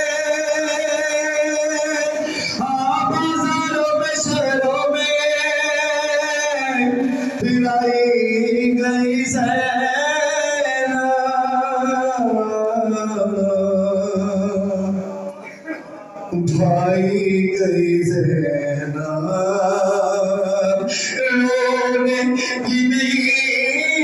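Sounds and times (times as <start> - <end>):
man singing unaccompanied lament: 0.0 - 24.0.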